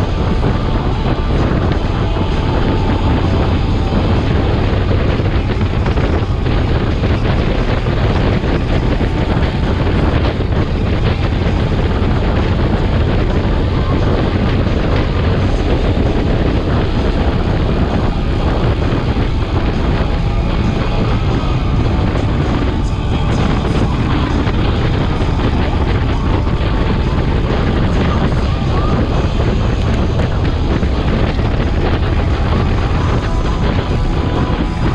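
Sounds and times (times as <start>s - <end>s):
road and motor noise: 0.0s - 34.9s
wind buffeting microphone: 0.0s - 34.9s.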